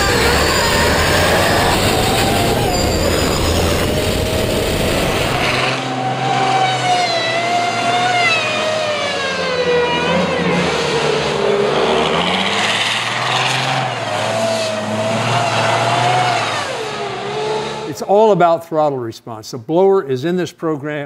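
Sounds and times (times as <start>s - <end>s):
diesel truck engine revving: 0.0s - 18.0s.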